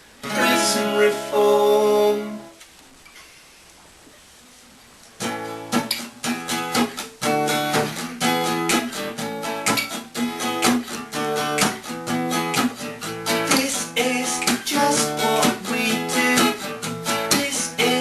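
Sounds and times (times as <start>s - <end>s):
acoustic guitar strumming chords: 0.0s - 2.6s, 5.2s - 18.0s.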